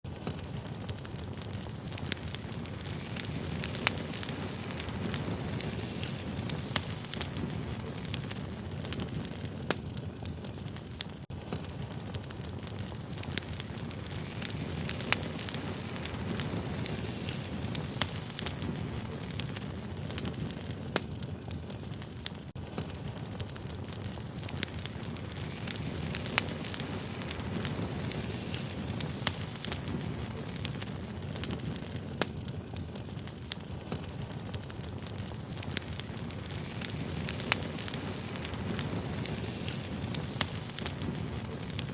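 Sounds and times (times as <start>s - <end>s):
firewood crackling: 0.0s - 41.9s
rush of flame: 0.1s - 41.9s
sharp pops of fire: 0.1s - 41.9s.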